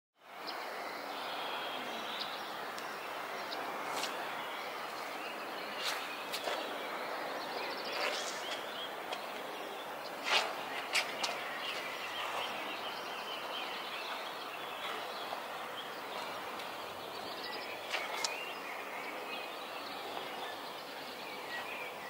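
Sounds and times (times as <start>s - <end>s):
birds chirping: 0.4s - 22.0s.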